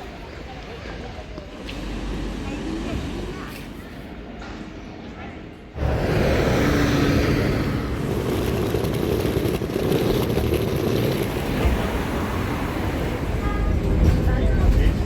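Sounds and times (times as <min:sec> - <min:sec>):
vehicle traffic rumble and hiss: 0:00.0 - 0:04.7, 0:05.7 - 0:15.0.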